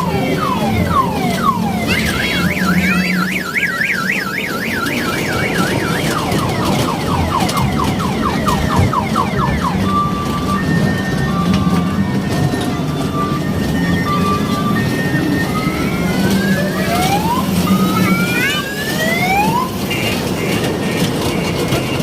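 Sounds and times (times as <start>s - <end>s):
electronic alarm siren: 0.0s - 22.0s.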